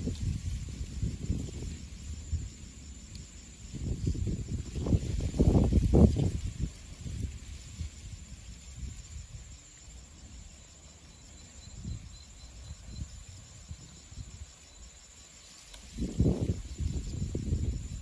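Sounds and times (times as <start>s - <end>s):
insects chirping in a pulsing trill: 0.0s - 18.0s.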